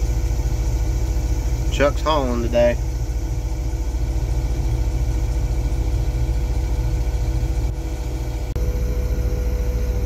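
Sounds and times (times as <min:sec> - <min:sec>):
combine engine and machinery: 0:00.0 - 0:10.0.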